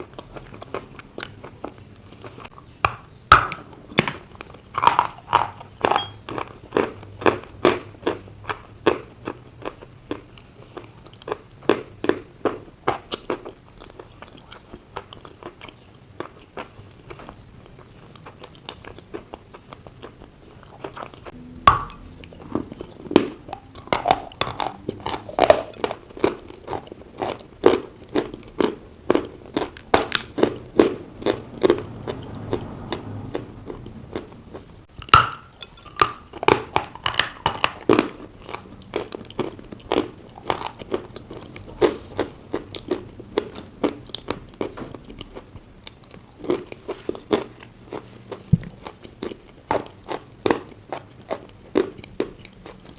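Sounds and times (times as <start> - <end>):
crunching and chewing: 0.0 - 52.9.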